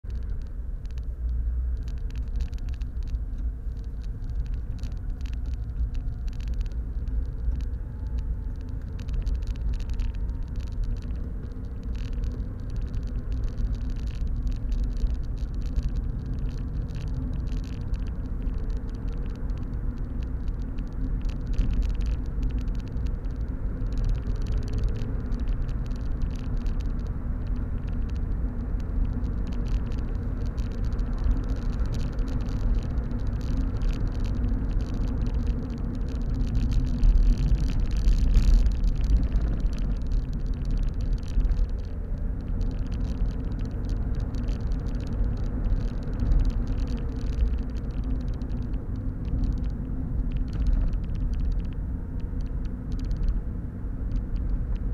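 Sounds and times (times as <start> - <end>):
car engine rumble: 0.0 - 54.9
road noise: 0.0 - 54.9.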